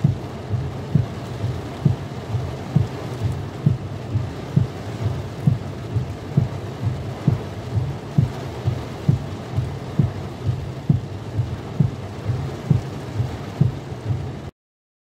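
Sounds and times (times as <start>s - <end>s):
engine and road rumble: 0.0s - 14.5s
rain on car: 0.0s - 14.5s
windscreen wipers thumping: 0.0s - 14.5s.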